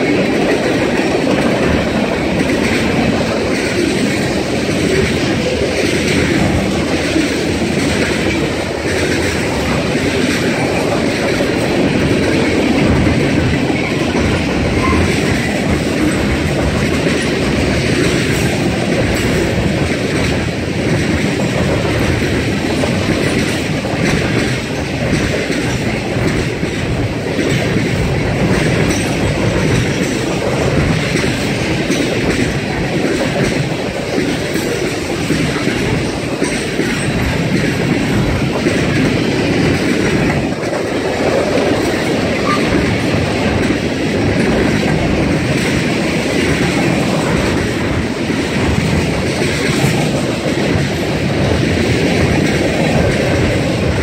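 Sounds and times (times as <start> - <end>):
steel wheels rumbling on rails: 0.0 - 54.0
wheels clacking over rail joints: 0.0 - 54.0.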